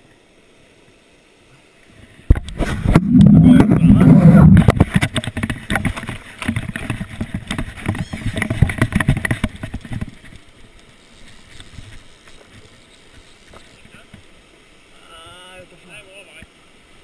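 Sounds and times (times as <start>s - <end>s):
faint river rapids rushing: 0.2s - 17.0s.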